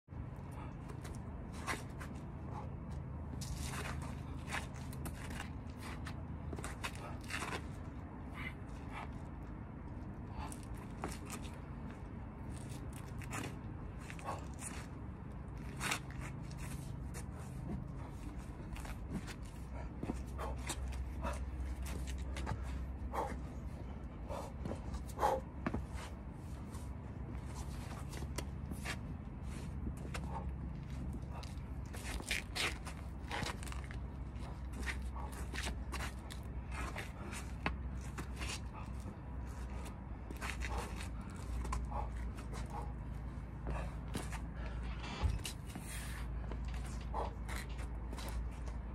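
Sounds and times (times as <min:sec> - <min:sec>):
low steady hum: 0:00.1 - 0:48.9.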